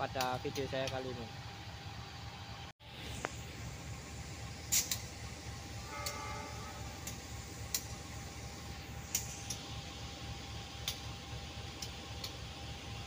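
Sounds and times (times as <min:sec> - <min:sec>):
low outdoor rumble: 0:00.0 - 0:13.0
faint hum: 0:00.2 - 0:13.0.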